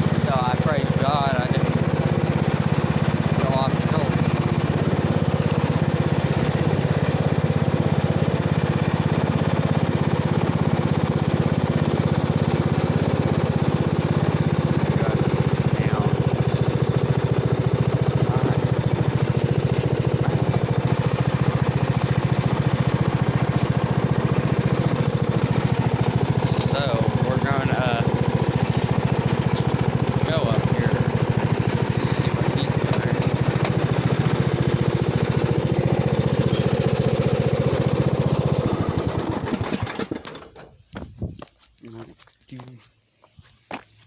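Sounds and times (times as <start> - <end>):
lawn mower engine running: 0.0 - 41.2.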